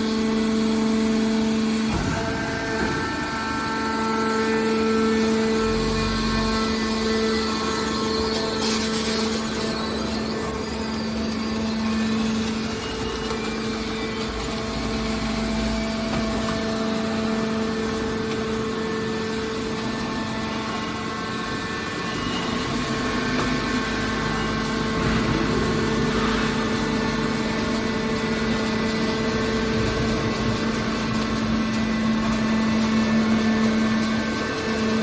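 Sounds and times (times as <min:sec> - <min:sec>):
baler machine hum: 0:00.0 - 0:35.0.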